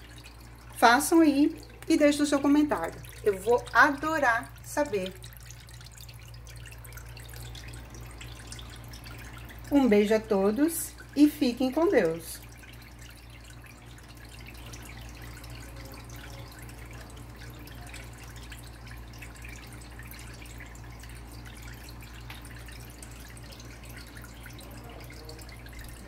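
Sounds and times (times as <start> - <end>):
fountain water trickling: 0.0 - 26.0.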